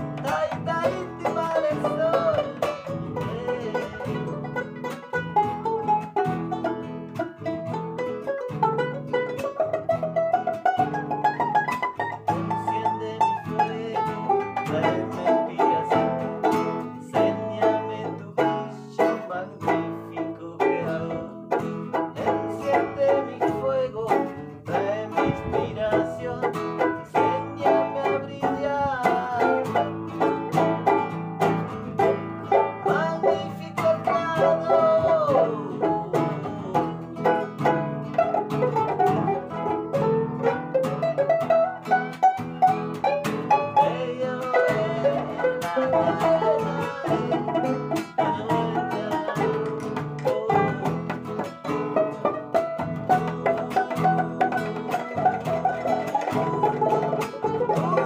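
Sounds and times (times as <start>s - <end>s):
acoustic guitar: 0.0s - 58.0s
banjo: 0.0s - 58.0s.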